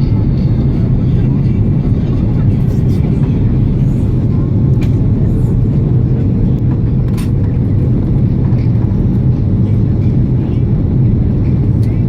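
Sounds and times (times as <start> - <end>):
jet engines and rushing air: 0.0 - 12.0.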